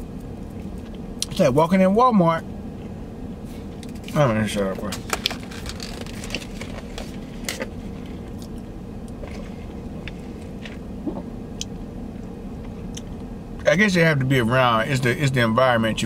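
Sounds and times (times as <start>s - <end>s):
car cabin hum: 0.0s - 16.0s.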